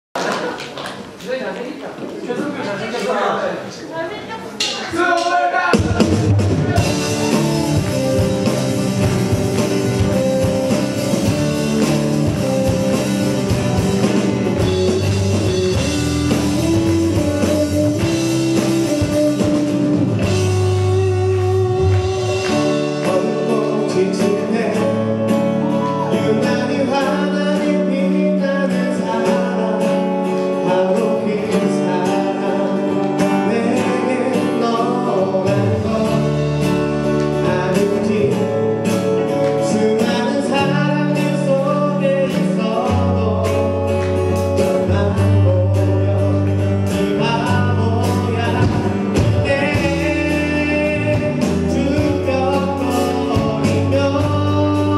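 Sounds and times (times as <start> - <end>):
live rock band playing: 5.7 - 54.9
person singing: 5.7 - 54.9.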